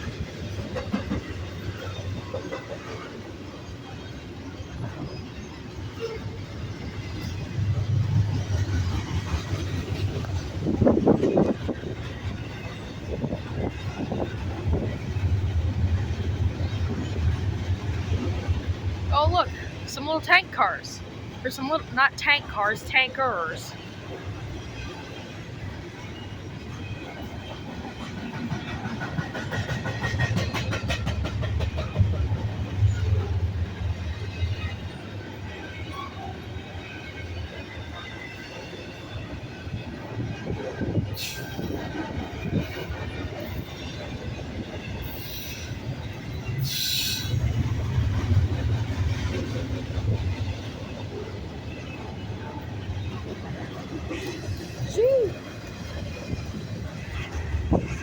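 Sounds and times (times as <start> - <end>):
wheels clattering over rail joints: 0.0 - 19.8, 23.8 - 58.0
freight train rolling past: 0.0 - 58.0.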